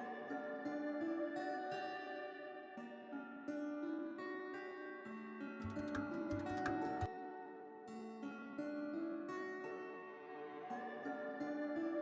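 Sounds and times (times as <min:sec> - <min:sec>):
calm plucked string music: 0:00.0 - 0:12.0.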